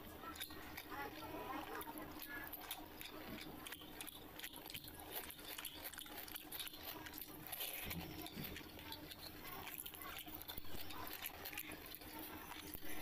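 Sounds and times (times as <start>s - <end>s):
chewing with wet mouth clicks: 0.0s - 13.0s.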